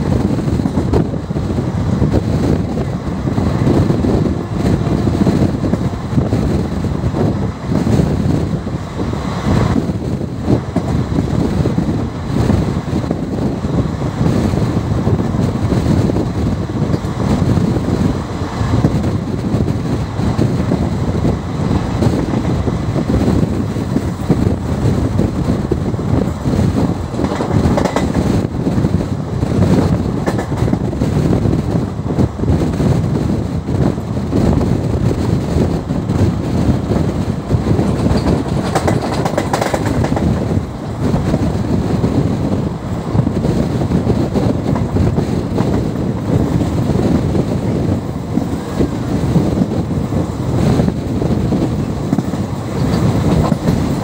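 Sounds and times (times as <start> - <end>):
train rumble: 0.0 - 54.0
wheels clattering over rails: 0.0 - 54.0.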